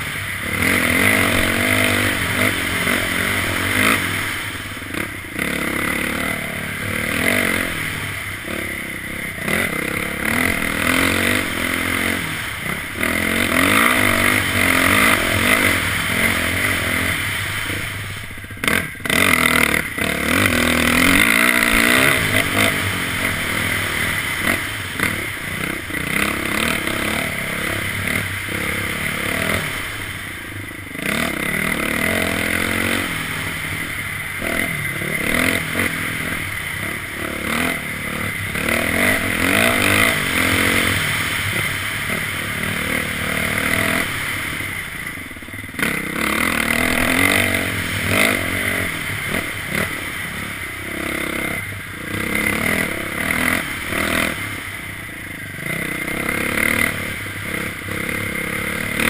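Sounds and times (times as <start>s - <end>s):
dirt bike engine running hard: 0.0s - 59.0s.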